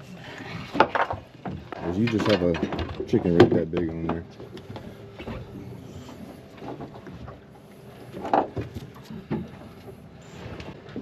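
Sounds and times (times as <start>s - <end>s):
water on boat hull: 0.0s - 11.0s
wind: 0.0s - 11.0s.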